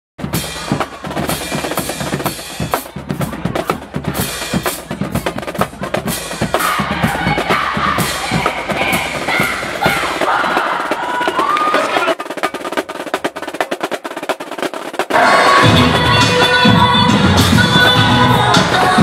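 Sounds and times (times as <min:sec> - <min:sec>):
heavy drum-driven music: 0:00.2 - 0:19.0.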